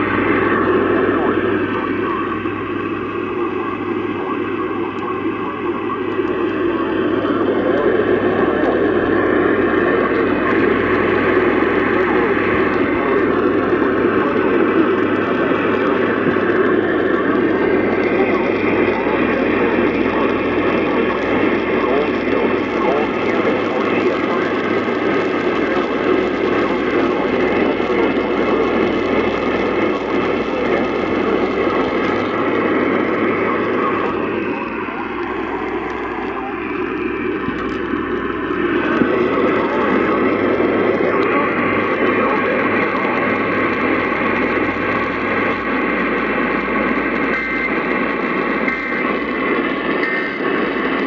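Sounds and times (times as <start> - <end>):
faint steady tones: 0.0 - 51.0
radio static hiss: 0.0 - 51.0.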